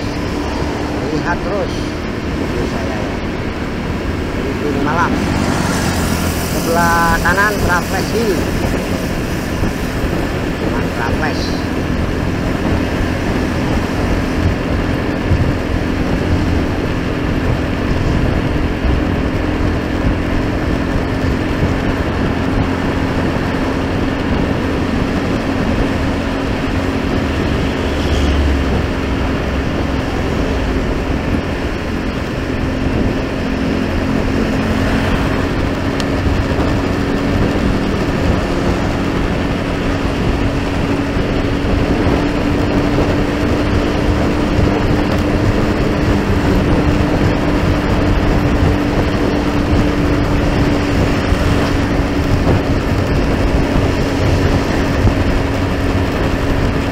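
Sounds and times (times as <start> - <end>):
vehicle road and engine noise: 0.0 - 56.9.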